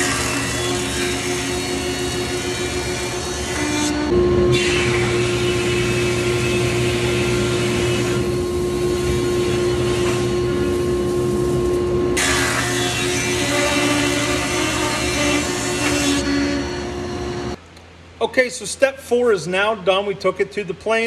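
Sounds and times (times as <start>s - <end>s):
thickness planer humming: 0.0s - 17.6s.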